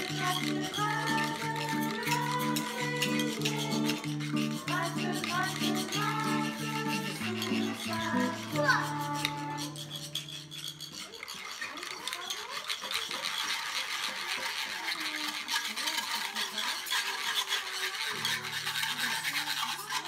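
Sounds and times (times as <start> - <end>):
hand percussion scraping clatter: 0.0 - 20.0.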